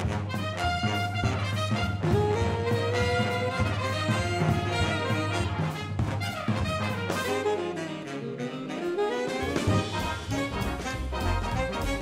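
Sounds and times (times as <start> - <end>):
upbeat jazzy brass music: 0.0 - 12.0.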